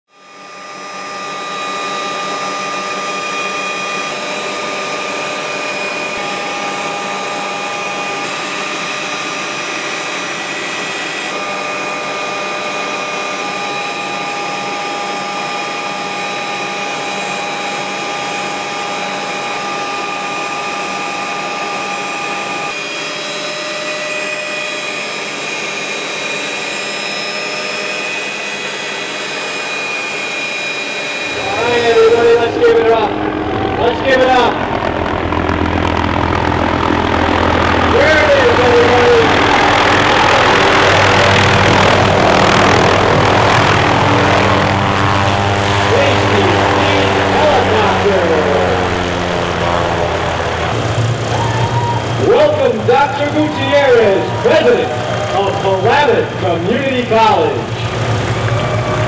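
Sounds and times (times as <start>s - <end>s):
aircraft engine running: 0.1s - 59.0s
high whining tones: 0.2s - 59.0s.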